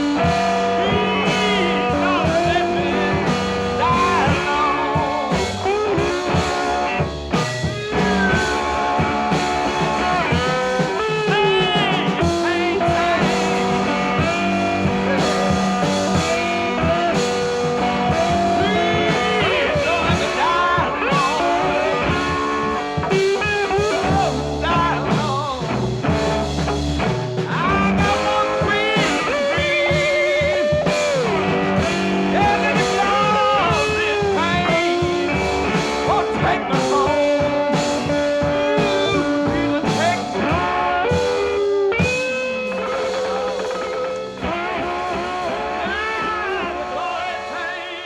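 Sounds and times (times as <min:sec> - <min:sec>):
blues-rock guitar music: 0:00.0 - 0:48.0.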